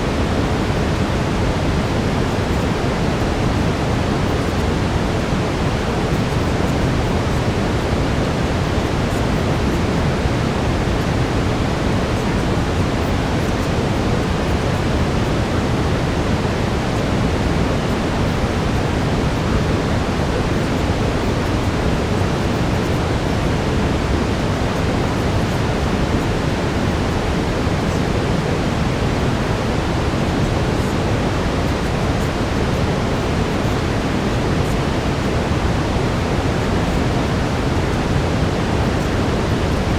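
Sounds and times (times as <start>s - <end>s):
brown noise rushing hiss: 0.0s - 39.9s.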